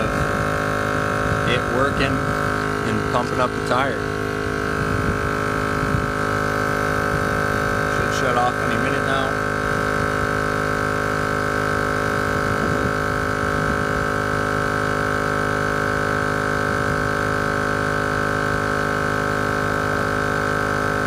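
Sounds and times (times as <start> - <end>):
air compressor buzzing hum: 0.0 - 21.0.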